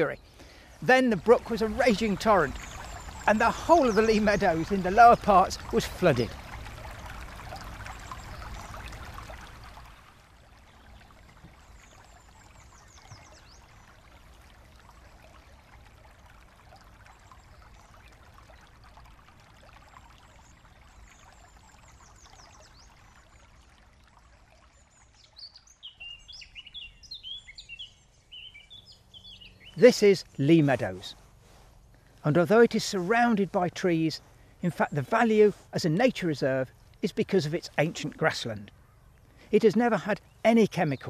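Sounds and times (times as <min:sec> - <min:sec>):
bird singing: 0:00.0 - 0:14.4, 0:19.9 - 0:23.6, 0:24.7 - 0:31.2, 0:31.8 - 0:41.0
floodwater rushing: 0:00.0 - 0:25.4, 0:29.5 - 0:41.0
brook running over stones: 0:00.0 - 0:41.0
songbirds chirping: 0:00.0 - 0:41.0.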